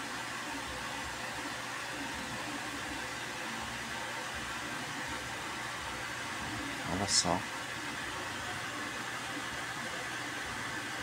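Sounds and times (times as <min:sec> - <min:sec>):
steady background hiss: 0:01.2 - 0:10.9.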